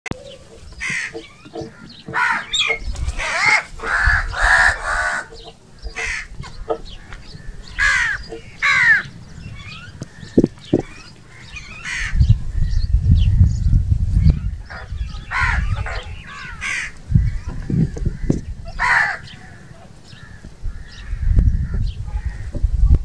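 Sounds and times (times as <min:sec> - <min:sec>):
crows cawing: 0:00.5 - 0:12.7, 0:14.7 - 0:22.5.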